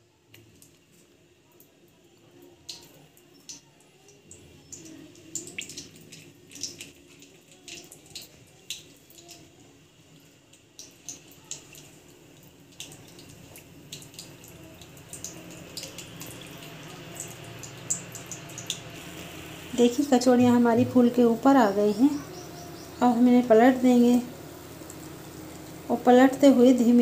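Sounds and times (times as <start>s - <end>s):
gentle frying sizzle: 0.0s - 27.0s.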